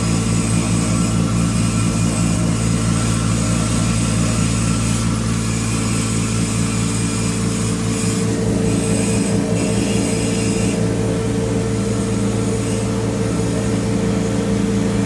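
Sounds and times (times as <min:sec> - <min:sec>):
grinding machine humming: 0:00.0 - 0:15.0.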